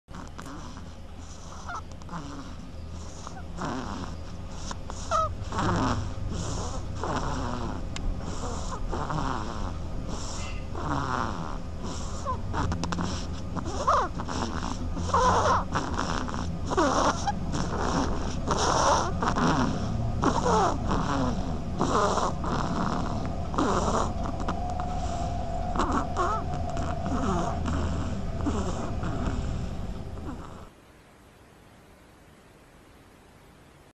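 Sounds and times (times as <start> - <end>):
duck snoring: 0.1 - 30.8.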